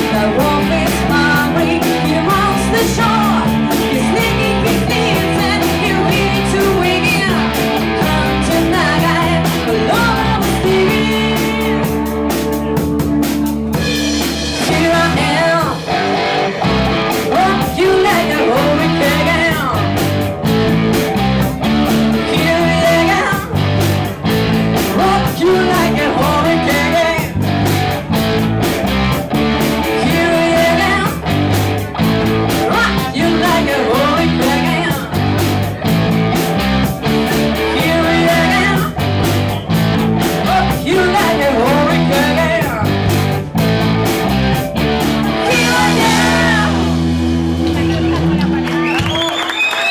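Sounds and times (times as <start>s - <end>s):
steady drum beat: 0.0s - 48.7s
lead electric guitar bending notes: 0.0s - 48.8s
sustained bass notes: 0.0s - 49.2s.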